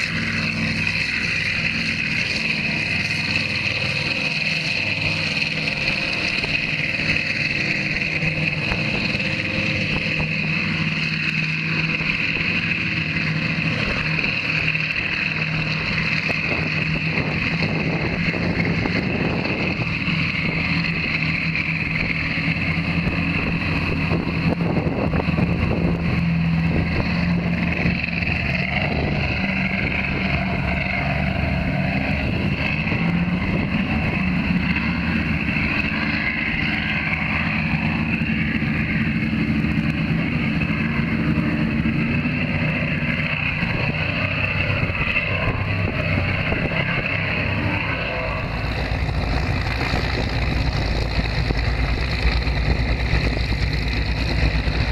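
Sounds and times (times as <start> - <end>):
powerboat engines at high speed: 0.0 - 54.9
wind buffeting microphone: 0.0 - 54.9.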